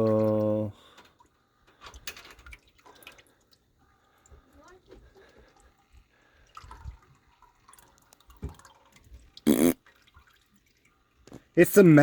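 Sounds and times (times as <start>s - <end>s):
oil dripping and trickling: 0.0s - 12.0s.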